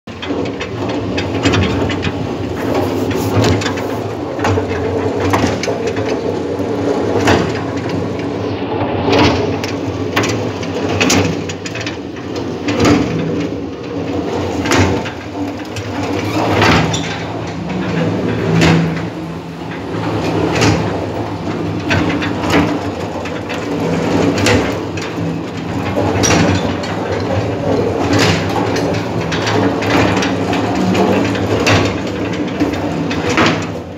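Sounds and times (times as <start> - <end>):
irregular knocks and clanks: 0.1 - 8.4, 9.1 - 33.9.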